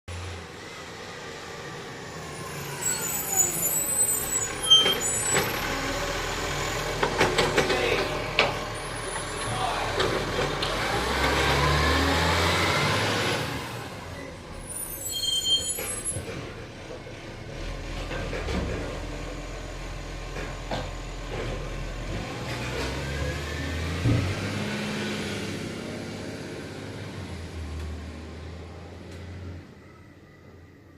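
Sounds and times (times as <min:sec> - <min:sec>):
diesel engine revving: 0:00.1 - 0:29.6.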